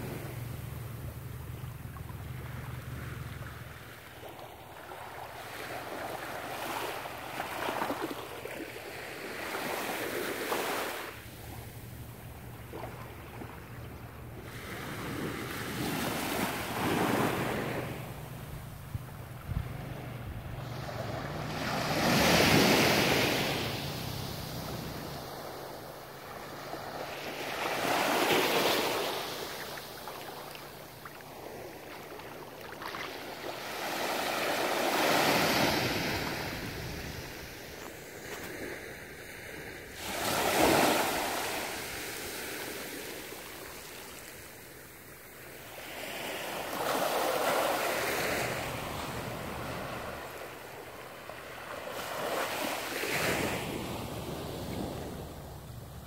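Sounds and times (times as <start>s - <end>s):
small sea waves washing up: 0.0s - 56.0s.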